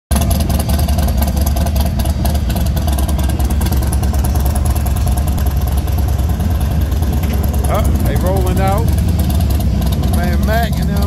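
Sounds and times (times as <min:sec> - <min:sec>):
motorcycle engines rumbling: 0:00.1 - 0:11.0.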